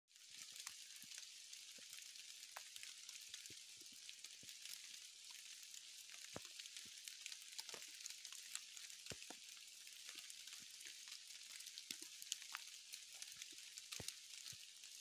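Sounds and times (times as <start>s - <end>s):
light rain patter on leaves: 0.1s - 15.0s
individual raindrops: 0.2s - 15.0s.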